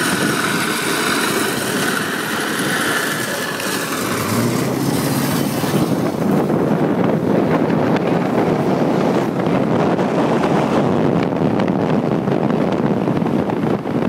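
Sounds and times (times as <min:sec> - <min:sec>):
car engine and road noise: 0:00.0 - 0:14.0
low engine note: 0:00.0 - 0:14.0.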